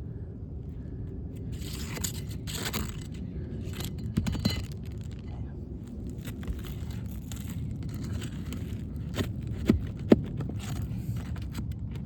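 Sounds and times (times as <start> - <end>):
low steady rumble: 0.0 - 12.0
metal tools scraping under shingles: 1.4 - 12.0.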